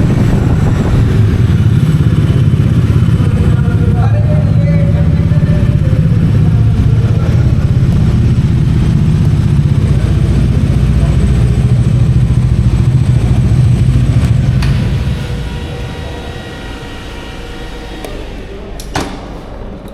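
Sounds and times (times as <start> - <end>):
motorcycle engine running: 0.0 - 18.5.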